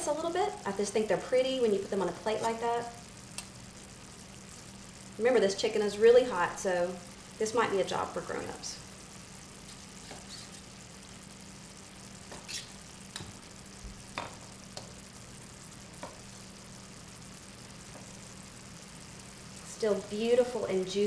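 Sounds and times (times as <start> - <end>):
sauce sizzling in a skillet: 0.0 - 21.0.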